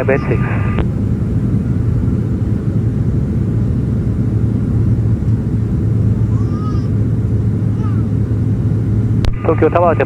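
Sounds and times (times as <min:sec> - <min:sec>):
airliner cabin rumble: 0:00.0 - 0:10.0
constant low hum: 0:00.0 - 0:10.0.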